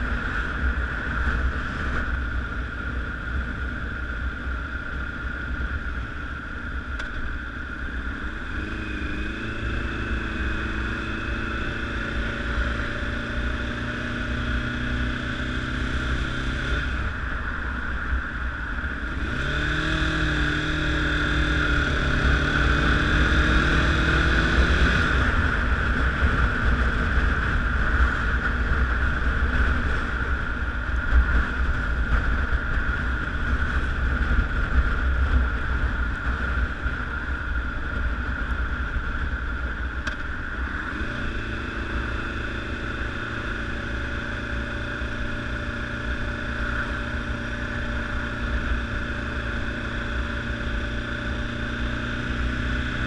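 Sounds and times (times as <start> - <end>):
motorcycle engine accelerating: 0.0 - 53.0
wind rushing across microphone: 0.0 - 53.0.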